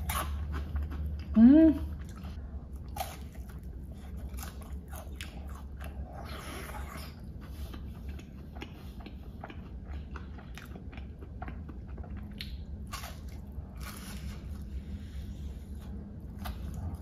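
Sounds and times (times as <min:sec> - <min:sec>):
chewing crunchy fried food: 0:00.0 - 0:17.0.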